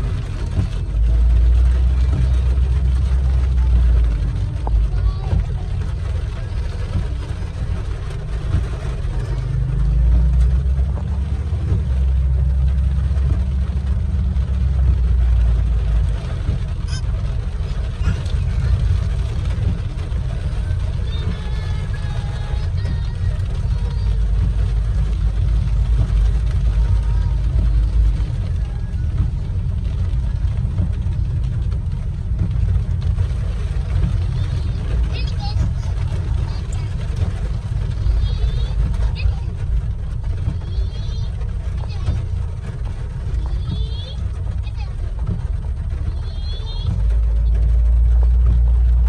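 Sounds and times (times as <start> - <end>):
rain and spray hiss: 0.0 - 49.0
road and engine rumble: 0.0 - 49.0.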